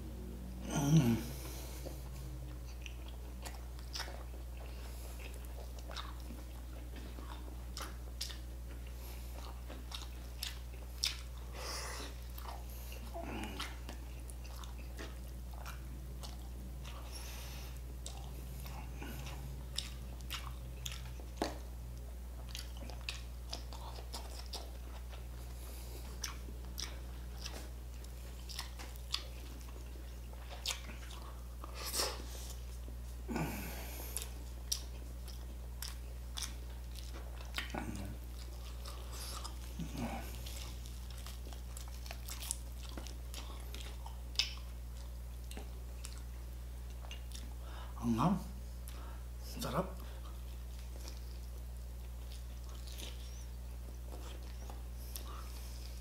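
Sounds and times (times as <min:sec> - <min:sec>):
steady low hum: 0:00.0 - 0:56.0
man chewing food: 0:00.1 - 0:56.0
food crunching: 0:01.3 - 0:47.6, 0:50.0 - 0:56.0.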